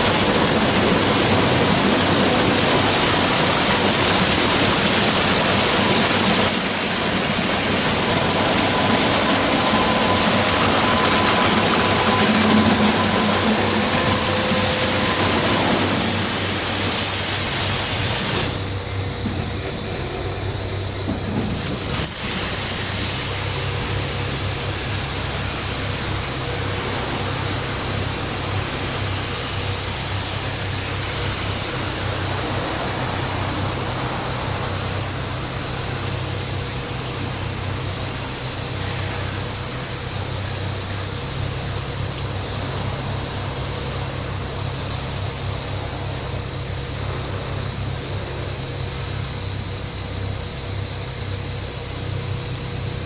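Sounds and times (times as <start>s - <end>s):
low machine hum: 0.0s - 53.0s
water spraying: 0.0s - 53.0s.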